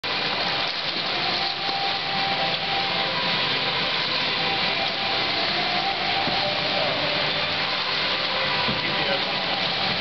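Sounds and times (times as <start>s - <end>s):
swimming pool hall ambience: 0.0s - 10.0s.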